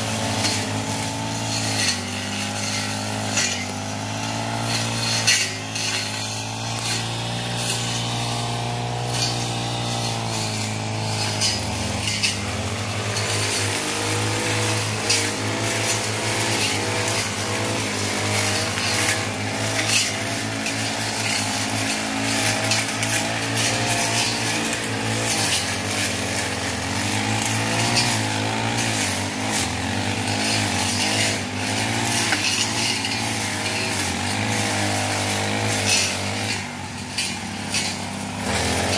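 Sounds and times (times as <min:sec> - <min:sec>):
blades striking stems: 0:00.0 - 0:38.9
brush cutter engines running: 0:00.0 - 0:38.9.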